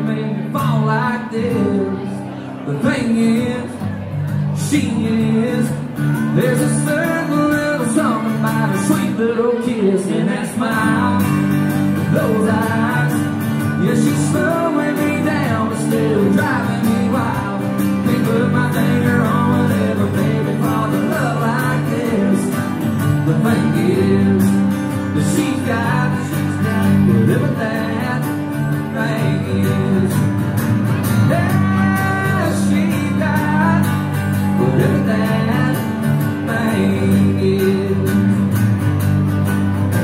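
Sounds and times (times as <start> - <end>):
person singing: 0.0 - 38.4
acoustic guitars playing: 0.0 - 40.0.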